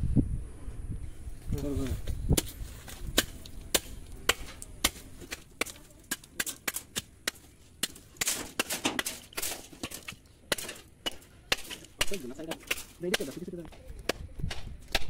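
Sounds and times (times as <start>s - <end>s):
blade chopping bamboo roots: 2.3s - 15.0s.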